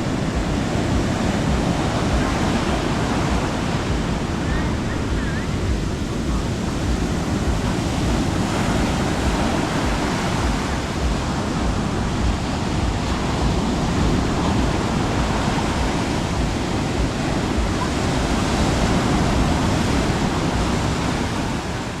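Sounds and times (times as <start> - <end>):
sea waves washing onto beach: 0.0 - 22.0.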